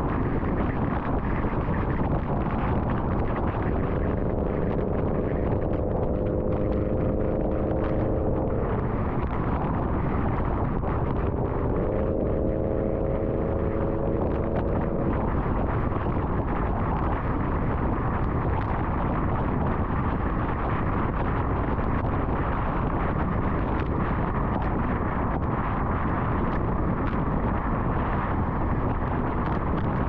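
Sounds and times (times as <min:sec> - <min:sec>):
car road and wind noise: 0:00.0 - 0:30.0.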